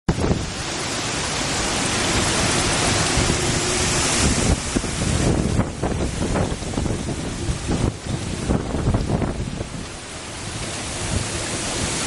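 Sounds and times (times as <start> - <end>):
rain hissing: 0.1 - 12.0
wind buffeting microphone: 0.1 - 12.0.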